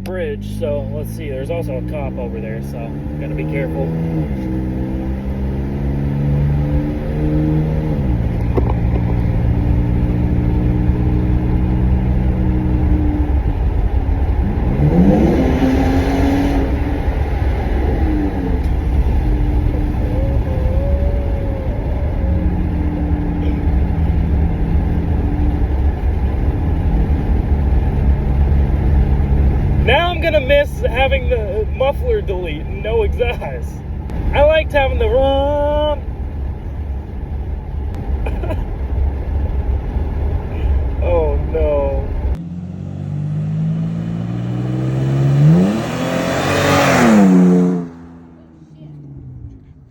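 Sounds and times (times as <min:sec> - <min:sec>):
pickup truck engine running: 0:00.0 - 0:47.4.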